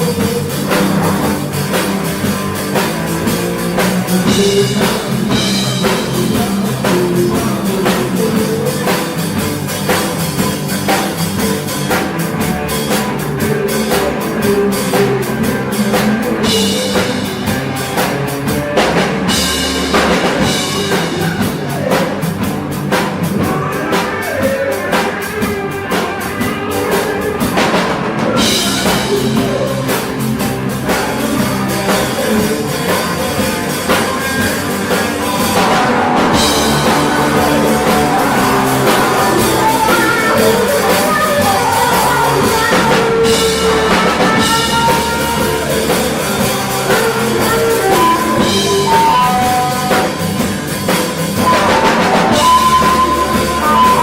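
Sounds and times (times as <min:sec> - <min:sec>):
bass guitar: 0:00.0 - 0:54.0
drum kit beat: 0:00.0 - 0:54.0
electric guitar: 0:00.0 - 0:54.0.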